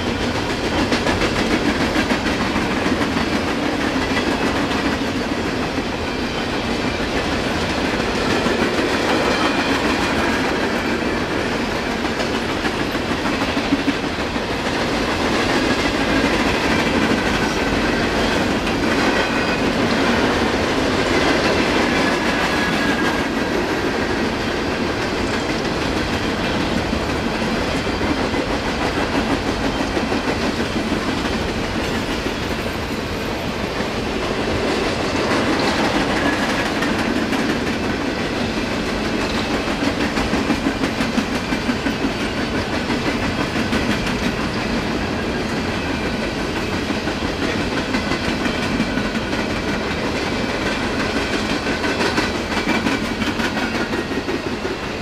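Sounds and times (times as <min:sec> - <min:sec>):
train cars rolling past: 0:00.0 - 0:55.0.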